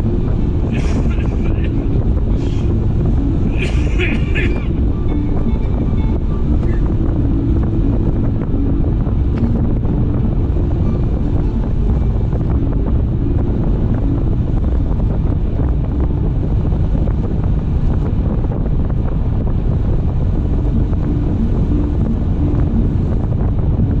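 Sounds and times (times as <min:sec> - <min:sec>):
road and tyre rumble: 0:00.0 - 0:24.0
wind buffeting microphone: 0:00.0 - 0:24.0.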